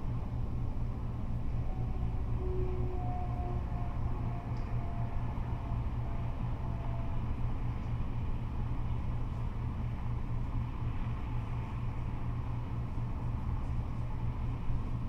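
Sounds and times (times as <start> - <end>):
freeway traffic rumbling: 0.0 - 15.0.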